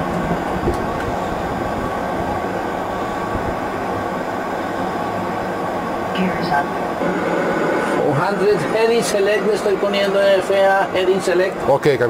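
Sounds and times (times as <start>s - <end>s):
simulated jet engines rumbling: 0.0s - 12.0s.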